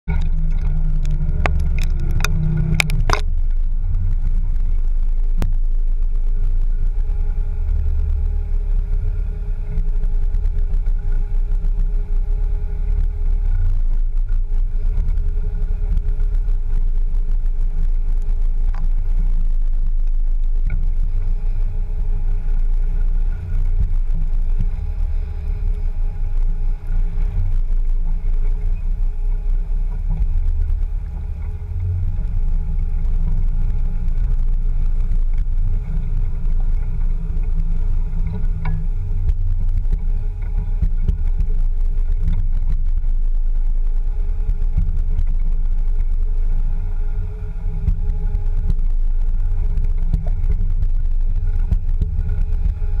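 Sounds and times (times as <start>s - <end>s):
vehicle engine low rumble: 0.0s - 53.0s.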